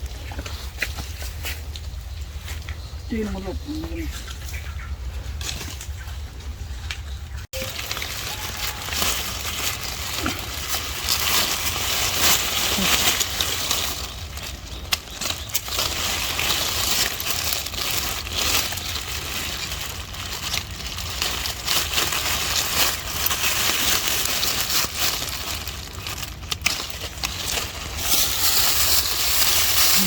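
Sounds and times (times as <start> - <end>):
dry plants rustling and crackling: 0.0 - 30.0.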